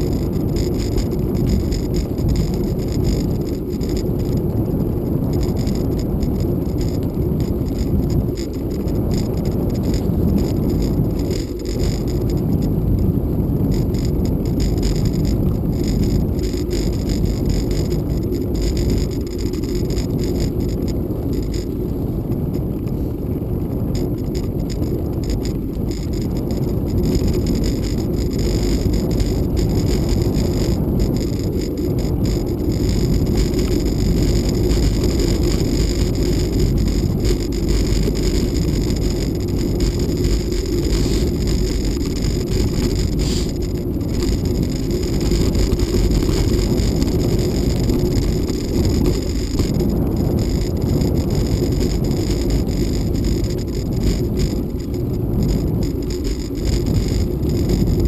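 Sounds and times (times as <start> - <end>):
bicycle tyre noise on gravel: 0.0 - 58.0
small clicks and rattles: 0.0 - 58.0
wind on microphone: 0.0 - 58.0.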